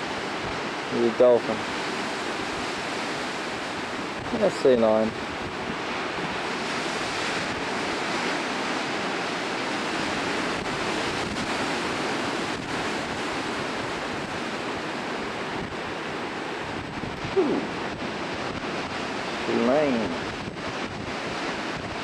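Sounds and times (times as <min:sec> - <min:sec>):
ocean surf breaking on rocks: 0:00.0 - 0:22.0
wind on microphone: 0:00.0 - 0:22.0.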